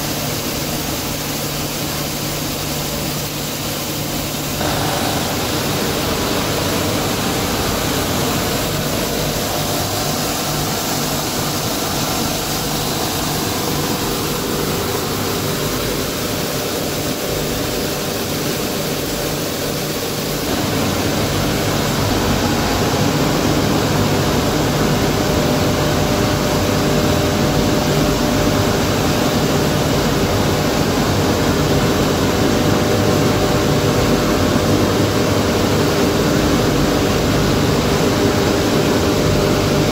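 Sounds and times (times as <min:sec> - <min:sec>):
blower fans: 0:00.0 - 0:39.9
steady machine hums: 0:00.0 - 0:39.9.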